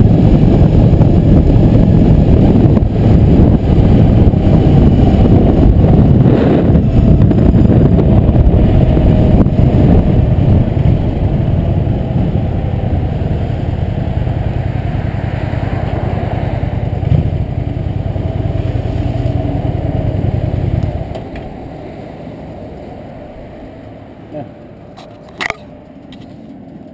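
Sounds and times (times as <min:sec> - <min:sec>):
motorcycle engine running: 0:00.0 - 0:23.7
wind on microphone: 0:00.0 - 0:23.9.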